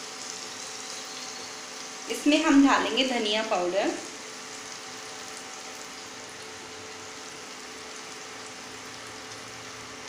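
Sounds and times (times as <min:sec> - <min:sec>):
faint steady hum: 0:00.0 - 0:10.0
vegetables sizzling in oil: 0:00.0 - 0:10.0.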